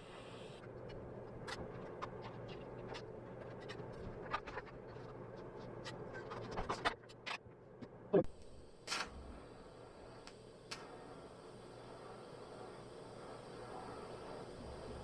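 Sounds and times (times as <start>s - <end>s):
welding arc hum: 0.0s - 7.2s, 7.9s - 15.0s.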